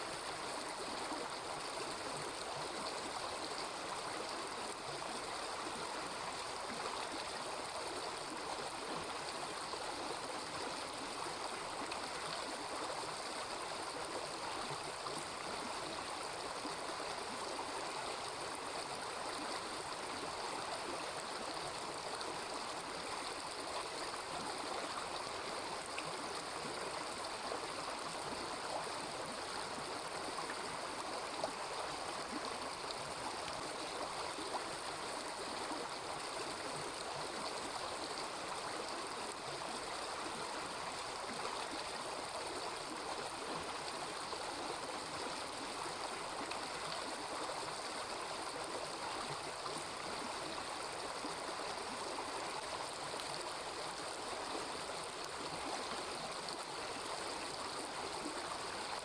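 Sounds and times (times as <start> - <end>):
small river babbling: 0.0 - 59.0.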